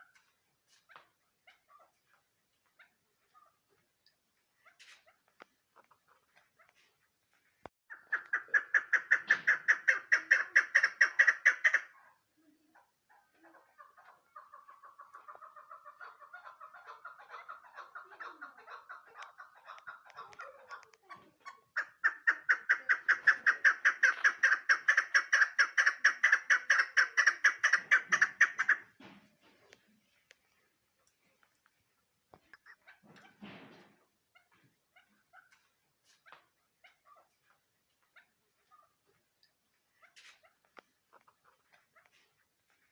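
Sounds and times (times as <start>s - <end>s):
partridge clucking calls: 7.9s - 42.9s.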